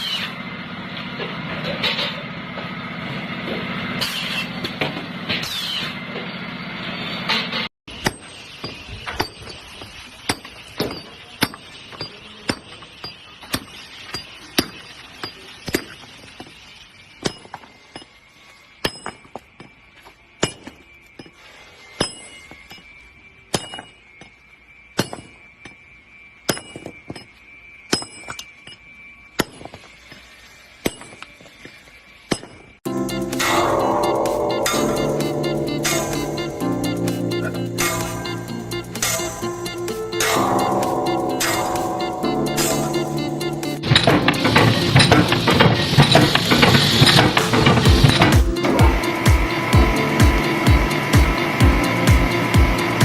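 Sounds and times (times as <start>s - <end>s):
sharp metallic knocks ringing: 7.9s - 16.5s, 17.2s - 31.7s, 32.3s - 53.0s.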